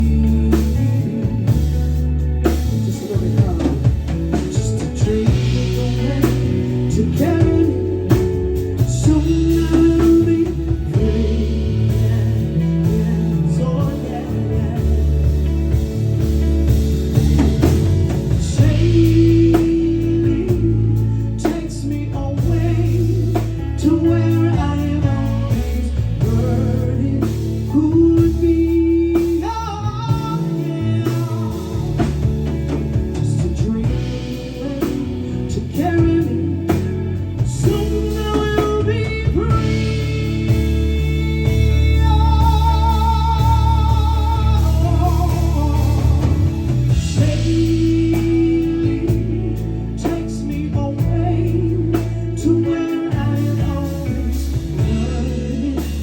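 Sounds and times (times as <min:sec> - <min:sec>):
lead vocal singing: 0:00.0 - 0:56.0
soft rock band playing: 0:00.0 - 0:56.0.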